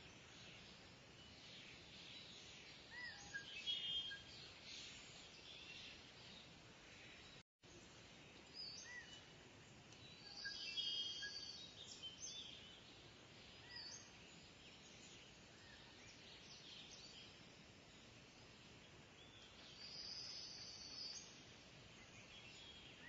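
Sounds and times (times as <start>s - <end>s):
birds chirping: 0.0s - 7.4s, 8.2s - 23.0s.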